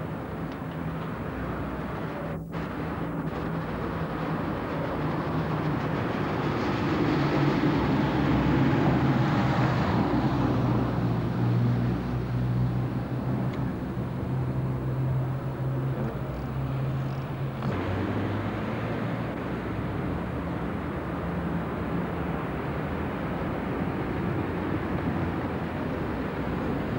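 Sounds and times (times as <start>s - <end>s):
vehicle engine humming: 0.0s - 26.9s.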